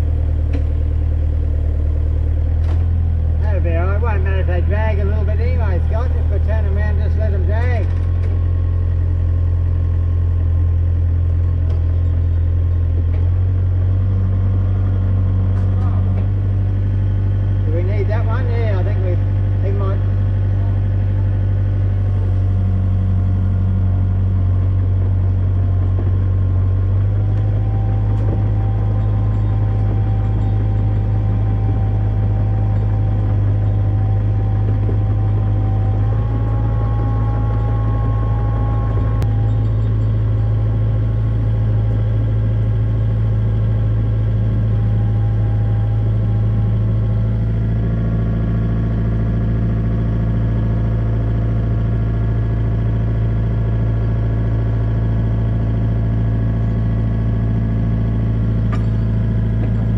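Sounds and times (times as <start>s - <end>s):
excavator engine running: 0.0s - 59.9s
hydraulic whine: 0.0s - 59.9s.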